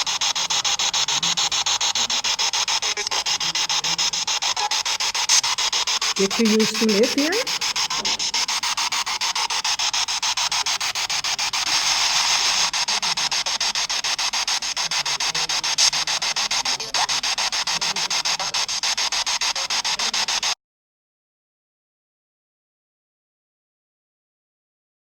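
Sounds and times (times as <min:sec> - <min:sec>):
pulsing radio static: 0:00.0 - 0:20.6.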